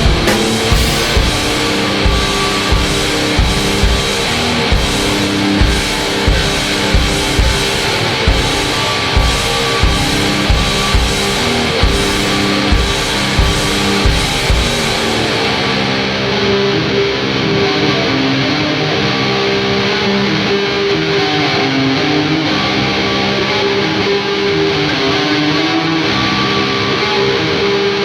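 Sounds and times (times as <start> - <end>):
distorted electric guitar chords: 0.0 - 28.0.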